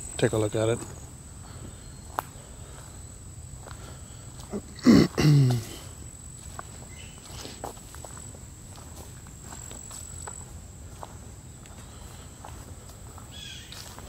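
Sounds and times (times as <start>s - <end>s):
footsteps on dirt trail: 0.0s - 14.0s
high insect drone: 0.0s - 14.0s.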